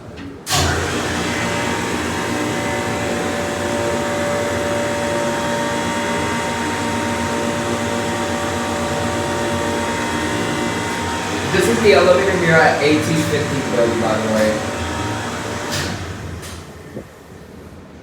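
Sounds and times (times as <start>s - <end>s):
hydraulic pump motor humming: 0.5s - 17.4s.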